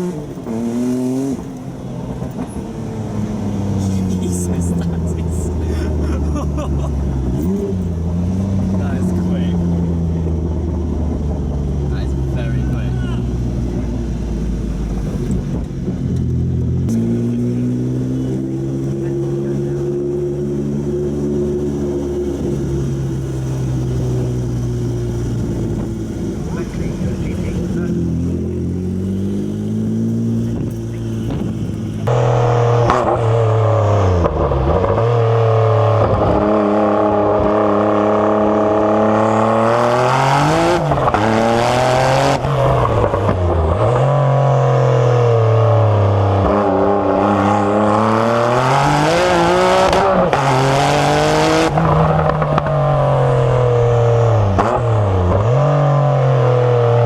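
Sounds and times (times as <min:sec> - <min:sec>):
car engine accelerating through gears: 0:00.0 - 0:57.0.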